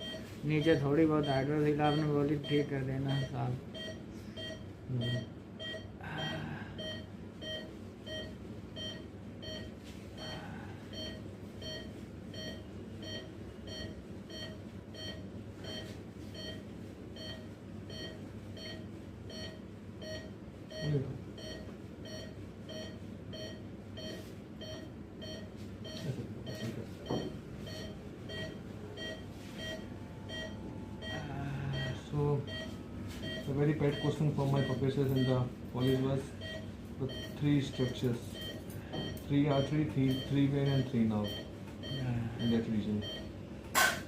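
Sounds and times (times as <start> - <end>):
patient monitor beeping: 0.0 - 44.0
steady room noise: 0.0 - 44.0.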